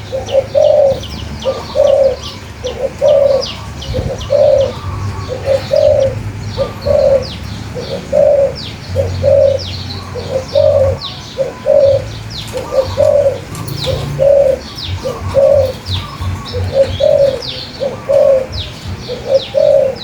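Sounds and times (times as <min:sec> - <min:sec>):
dove cooing: 0:00.0 - 0:20.0
small birds chirping: 0:00.0 - 0:20.0.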